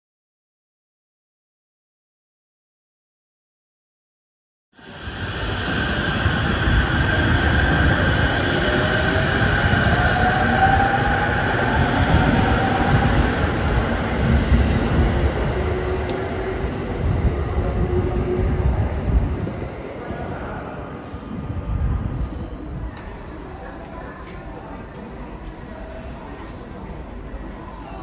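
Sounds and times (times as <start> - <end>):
monorail train rumble: 4.8 - 28.0.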